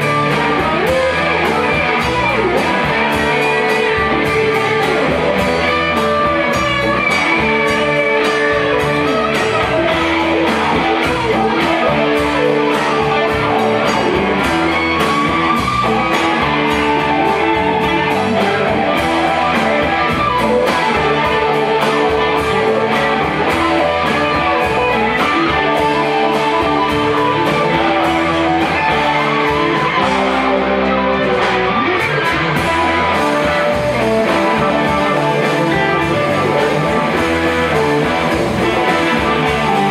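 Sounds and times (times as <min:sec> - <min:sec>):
live rock band playing: 0:00.0 - 0:39.9
steady drum beat: 0:00.0 - 0:39.9.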